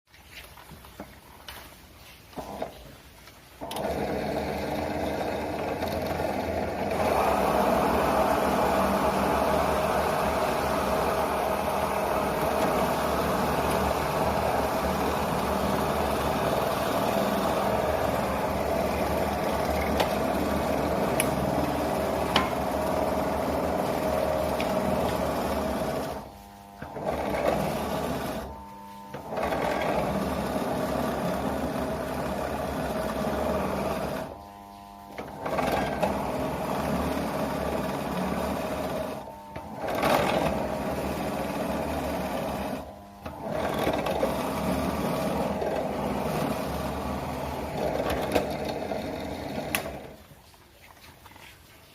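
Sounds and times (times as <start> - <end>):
electric drill boring into wood: 3.6 - 34.5, 35.1 - 50.2.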